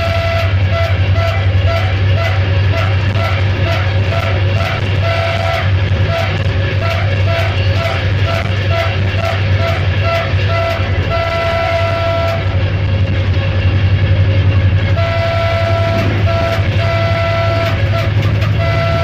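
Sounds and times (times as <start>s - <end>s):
locomotive horn blasts: 0.0s - 12.7s, 14.8s - 19.0s
train low drone: 0.0s - 19.0s.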